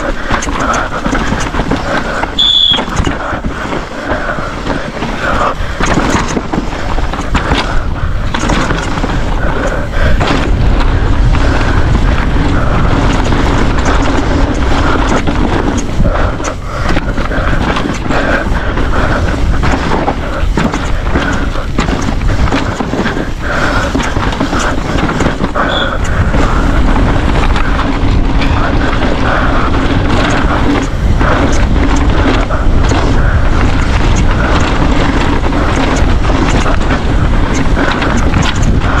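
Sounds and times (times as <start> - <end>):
bike rattling over bumps: 0.0 - 39.0
wind buffeting microphone: 0.0 - 39.0.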